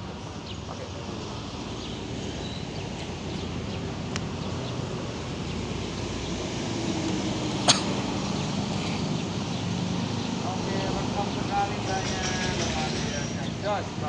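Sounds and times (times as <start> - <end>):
motorbike engines on road: 0.0 - 14.0.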